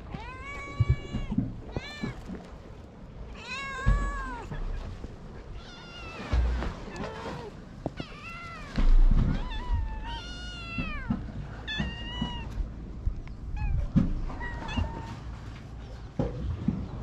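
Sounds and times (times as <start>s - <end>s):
cats meowing: 0.0s - 2.4s, 3.3s - 12.8s, 13.4s - 15.3s
low rumble on microphone: 0.0s - 17.0s.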